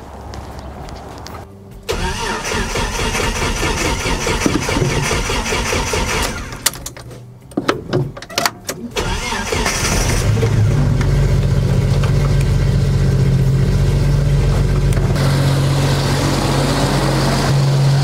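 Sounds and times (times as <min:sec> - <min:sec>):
car engine starting and idling: 0:01.8 - 0:07.2, 0:07.9 - 0:18.0.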